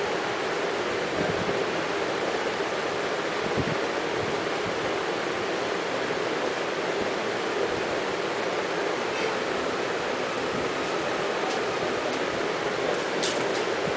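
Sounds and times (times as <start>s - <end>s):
steady rushing noise: 0.0s - 13.9s.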